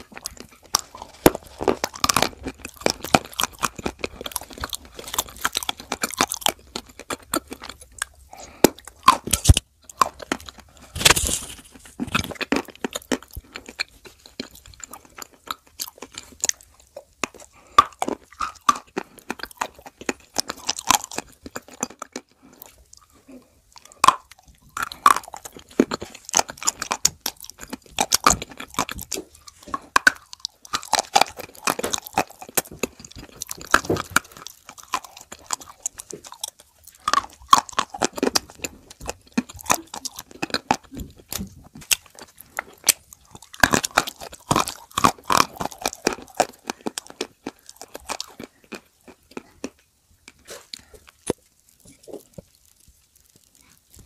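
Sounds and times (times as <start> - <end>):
crunching and chewing clay: 0.0 - 54.0.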